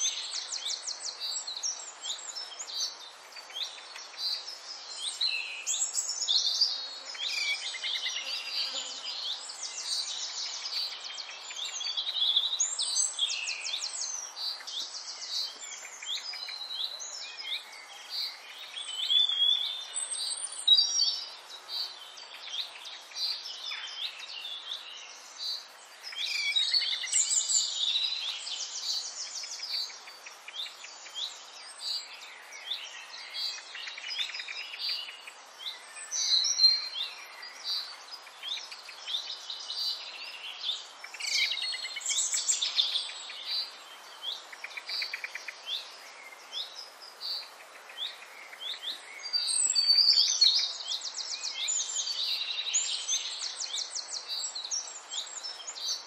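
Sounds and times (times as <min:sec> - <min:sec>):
birds chirping and singing: 0:00.0 - 0:56.0
faint steady hiss: 0:00.0 - 0:56.0.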